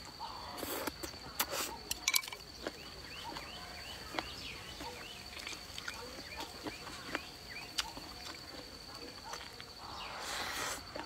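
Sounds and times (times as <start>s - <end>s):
wet squelching chewing sounds: 0.0s - 11.0s.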